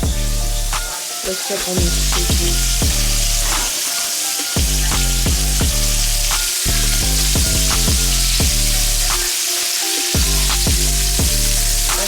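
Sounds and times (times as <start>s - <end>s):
chicken sizzling in grease: 0.0s - 12.0s
music with heavy bass beat: 0.0s - 12.0s.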